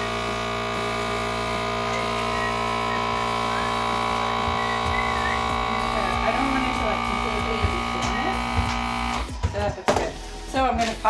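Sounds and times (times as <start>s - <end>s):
vacuum sealer pump whining: 0.0s - 9.4s.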